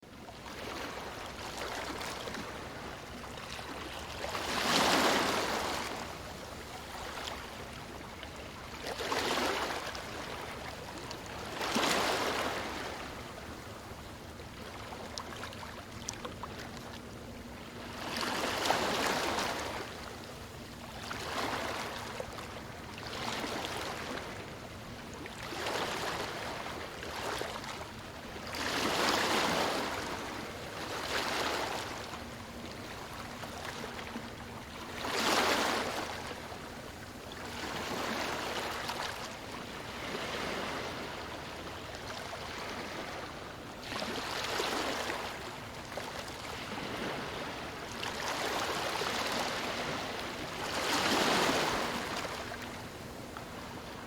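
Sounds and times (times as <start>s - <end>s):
small waves washing onto shore: 0.4s - 17.1s, 17.7s - 54.0s.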